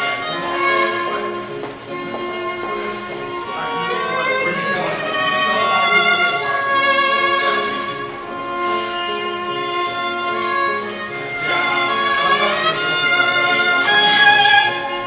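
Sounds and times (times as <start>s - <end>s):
violin bowed notes: 0.0s - 15.0s.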